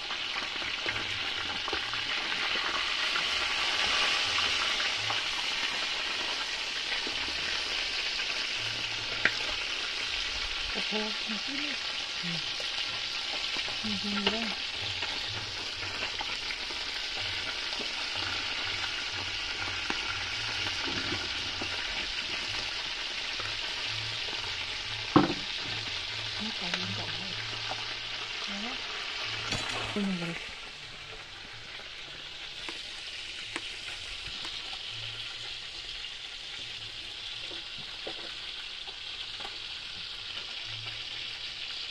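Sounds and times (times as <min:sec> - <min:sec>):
fish deep-frying in oil sizzling: 0:00.0 - 0:41.9.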